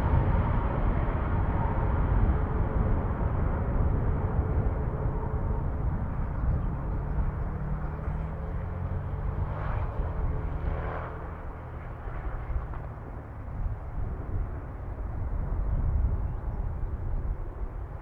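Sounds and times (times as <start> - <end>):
airliner engines rumbling: 0.0 - 18.0.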